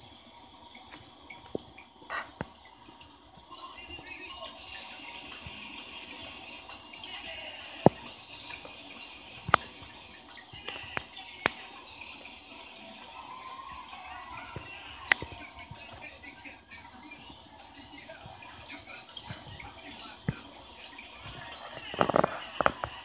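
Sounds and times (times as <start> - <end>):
aquarium water trickling: 0.0 - 23.0.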